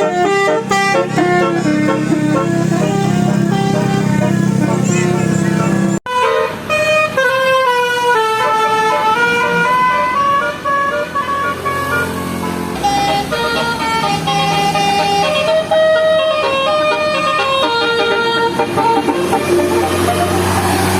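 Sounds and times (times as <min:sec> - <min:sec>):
musical air horn playing a tune: 0:00.0 - 0:20.9.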